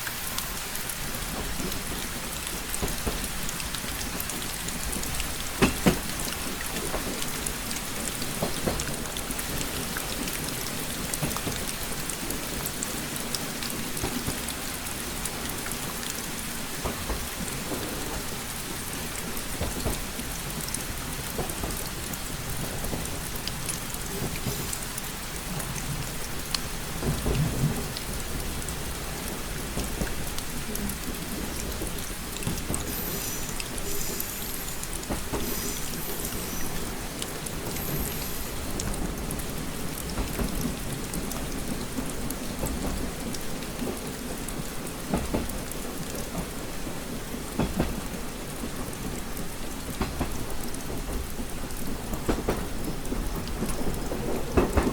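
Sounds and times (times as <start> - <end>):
rain drops tapping: 0.0 - 54.9.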